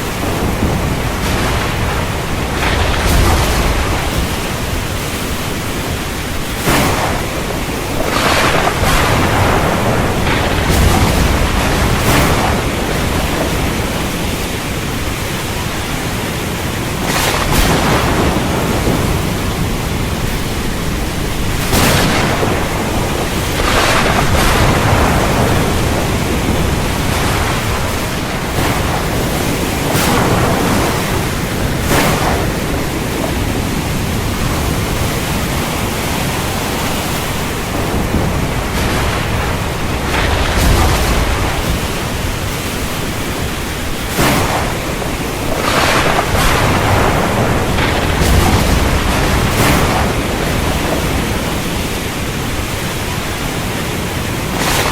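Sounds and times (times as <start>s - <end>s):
heavy rain: 0.0s - 54.9s
low thunder rumbling: 0.0s - 54.9s.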